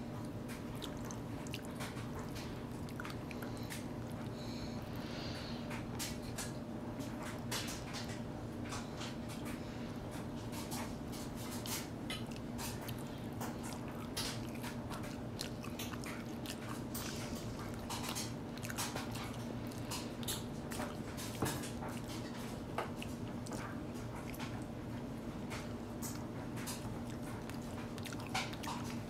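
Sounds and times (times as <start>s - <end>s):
baby chewing food: 0.0s - 29.0s.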